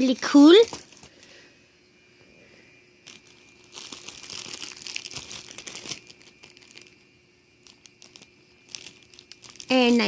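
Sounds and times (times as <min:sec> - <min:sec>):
packaging crinkling: 0:00.0 - 0:01.4, 0:03.0 - 0:10.0.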